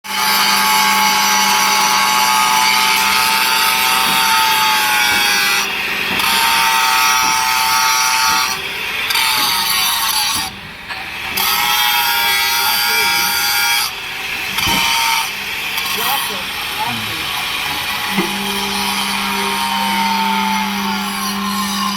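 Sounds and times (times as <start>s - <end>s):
high-pitched machine whine: 0.1s - 21.9s
low machine hum: 1.4s - 21.9s.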